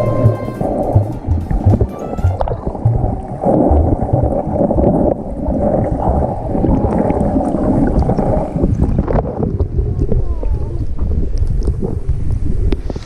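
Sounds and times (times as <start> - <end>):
muffled stream water rumble: 0.0 - 13.0
wind buffeting microphone: 1.2 - 13.0.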